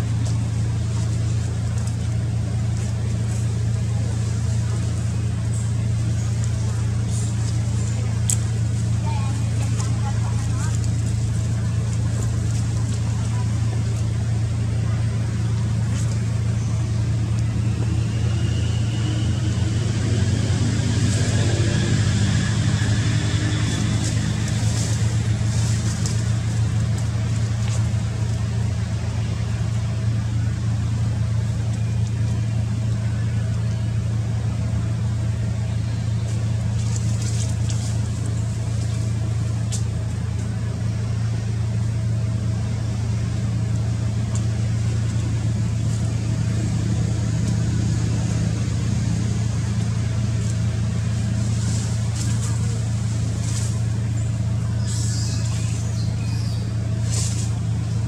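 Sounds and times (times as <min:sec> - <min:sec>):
motor droning: 0:00.0 - 0:58.0.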